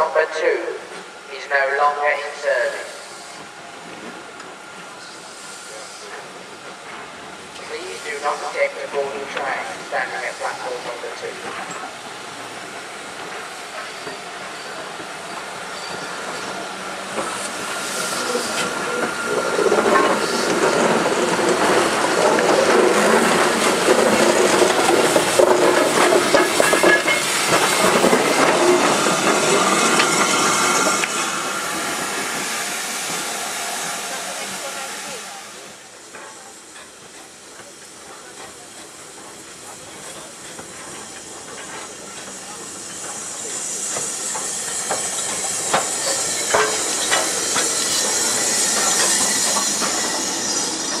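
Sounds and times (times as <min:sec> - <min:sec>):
steam train rumbling and clattering: 0:00.0 - 0:51.0.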